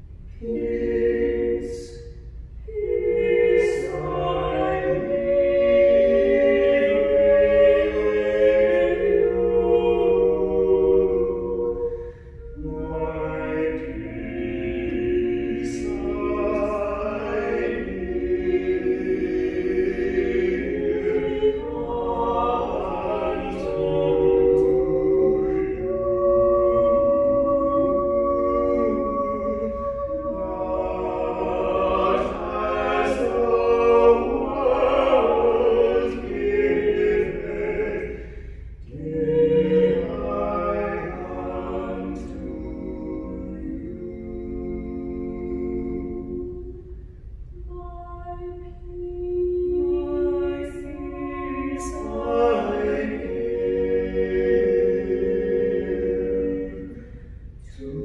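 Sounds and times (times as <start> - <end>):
vocal quartet singing unaccompanied: 0.0 - 58.0.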